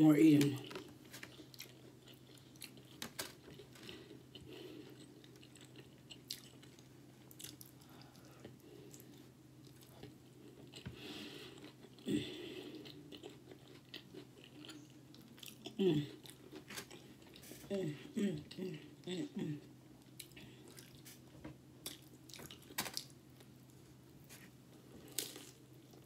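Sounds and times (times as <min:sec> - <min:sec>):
person chewing crunchy food: 0:00.6 - 0:17.6, 0:20.0 - 0:23.8, 0:24.9 - 0:26.0.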